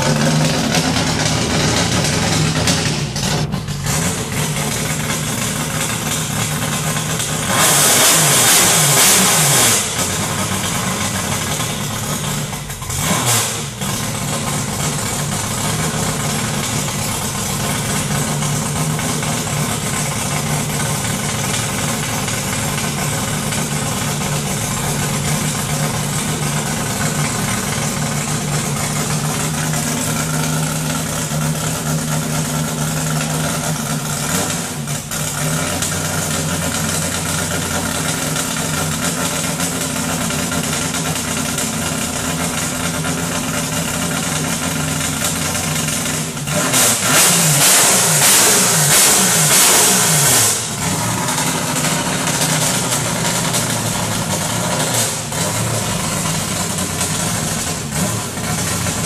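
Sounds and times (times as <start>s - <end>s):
car engine fast idle: 0.0s - 59.0s.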